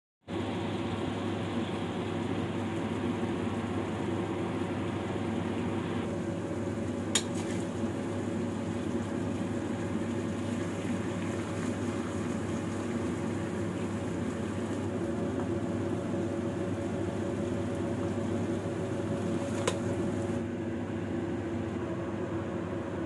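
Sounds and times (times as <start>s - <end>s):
low steady hum: 0.3s - 23.0s.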